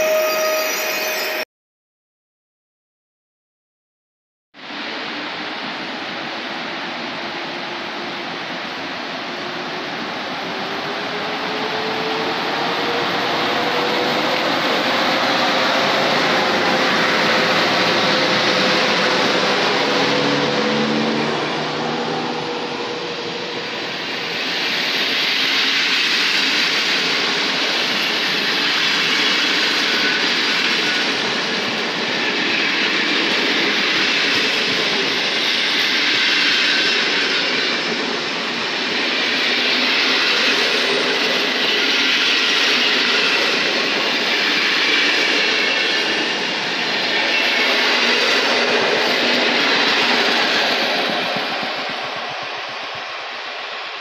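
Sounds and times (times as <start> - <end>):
train wheels rushing on track: 4.6 - 54.0.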